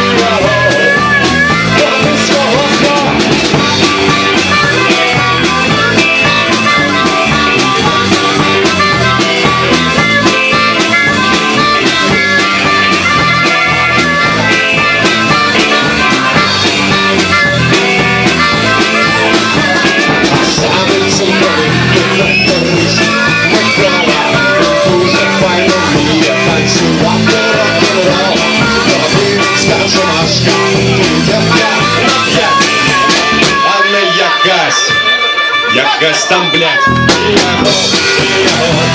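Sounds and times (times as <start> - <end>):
bent guitar notes: 0.0 - 38.9
rockabilly band playing live: 0.0 - 38.9.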